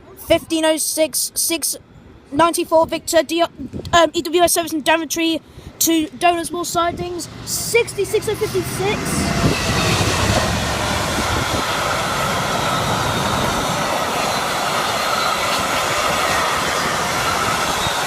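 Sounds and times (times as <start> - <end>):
diesel locomotive engine: 3.4 - 18.0.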